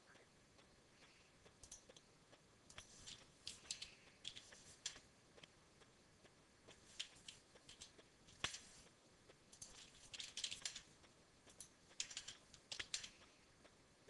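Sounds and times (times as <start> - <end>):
faint keyboard typing: 0.0 - 13.8.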